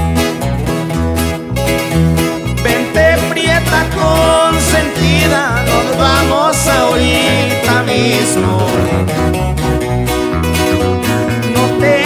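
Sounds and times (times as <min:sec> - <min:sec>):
electric bass notes: 0:00.0 - 0:12.0
strummed acoustic guitars: 0:00.0 - 0:12.0.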